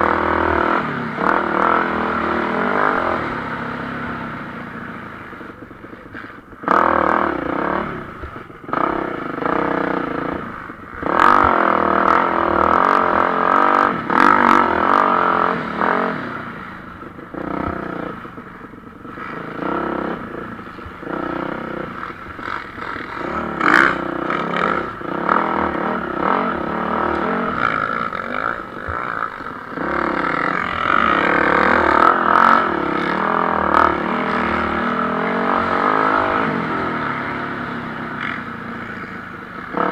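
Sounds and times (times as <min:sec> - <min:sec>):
motocross bikes racing past: 0:00.0 - 0:39.9.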